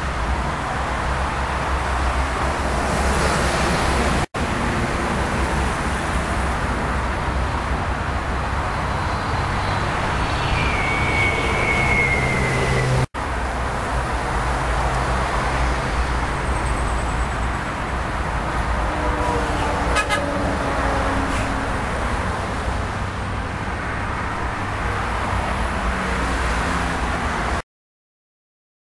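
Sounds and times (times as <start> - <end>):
road traffic rumble: 0.0 - 27.6.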